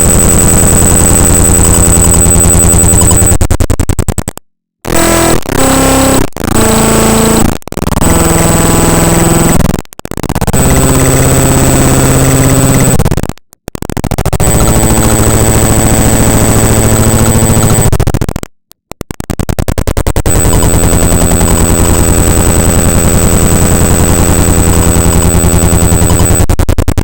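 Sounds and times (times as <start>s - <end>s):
high whine: 0.0s - 3.8s, 4.9s - 13.2s, 14.0s - 18.2s, 19.2s - 26.6s
harsh buzzing noise: 0.0s - 27.0s.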